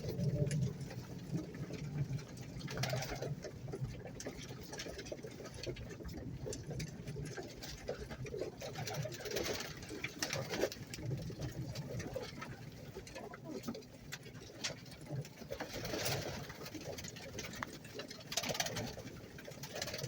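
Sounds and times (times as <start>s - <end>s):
pigeons cooing: 0.0s - 20.0s
pigeons pecking at grain: 0.0s - 20.0s.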